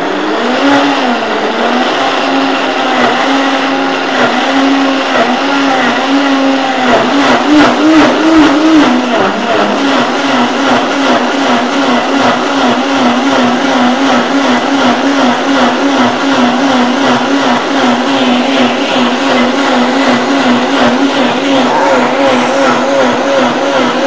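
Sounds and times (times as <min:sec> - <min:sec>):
blender motor whining: 0:00.0 - 0:24.0.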